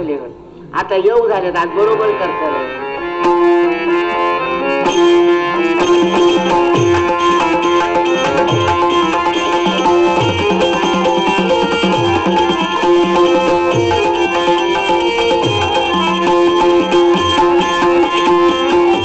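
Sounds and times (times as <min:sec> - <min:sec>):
harmonium melody: 0:01.3 - 0:19.0.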